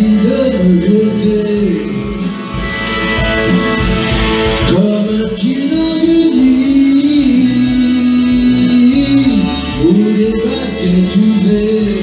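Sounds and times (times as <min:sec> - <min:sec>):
man singing into microphone: 0:00.0 - 0:02.5, 0:04.7 - 0:12.0
pop ballad backing track: 0:00.0 - 0:12.0.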